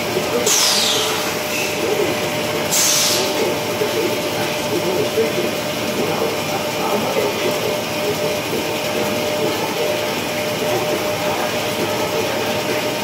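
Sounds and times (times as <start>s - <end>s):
constant machine whine: 0.0s - 13.0s
lathe cutting metal with coolant spray: 0.0s - 13.0s.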